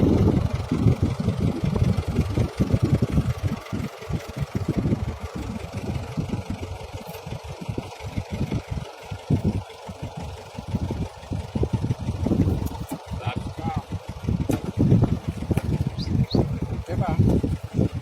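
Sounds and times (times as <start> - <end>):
engine idling unevenly: 0.0 - 18.0.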